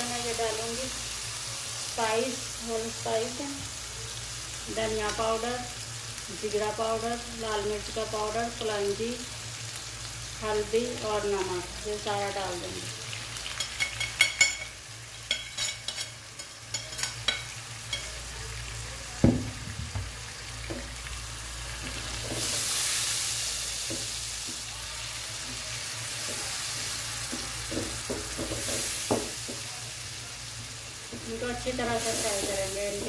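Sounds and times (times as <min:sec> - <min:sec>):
masala sizzling in frying pan: 0:00.0 - 0:33.0.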